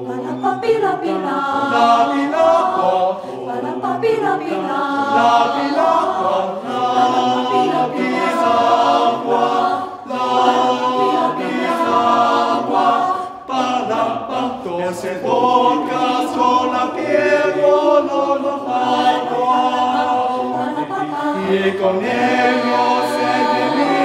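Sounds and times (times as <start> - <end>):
choir singing a cappella: 0.0 - 24.0.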